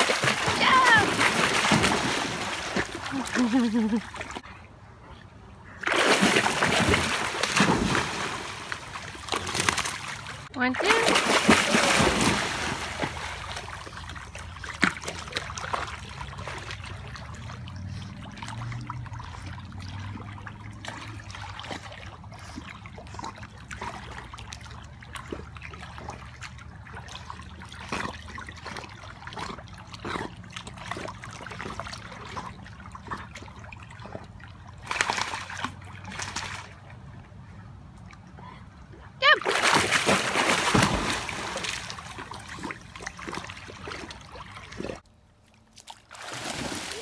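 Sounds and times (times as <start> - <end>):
dog paddling splashes: 0.0 - 4.4, 5.8 - 38.0, 38.9 - 47.0
pool water lapping: 0.0 - 47.0.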